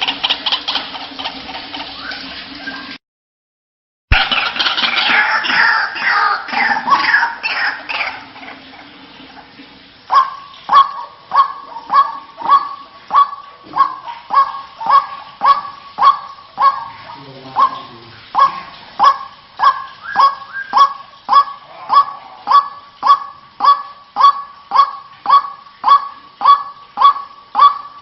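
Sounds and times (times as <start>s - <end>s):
waterhen calling: 0.0s - 3.0s, 4.1s - 28.0s.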